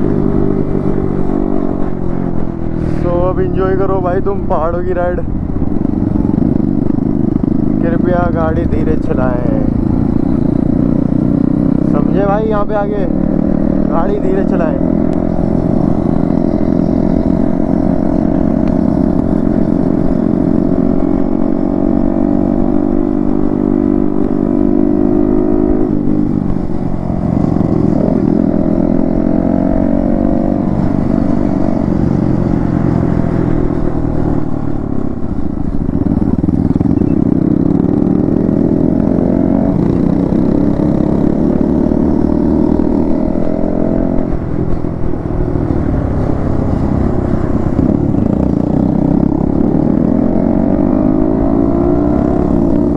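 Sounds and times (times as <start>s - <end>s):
motorcycle engine while riding: 0.0s - 52.9s.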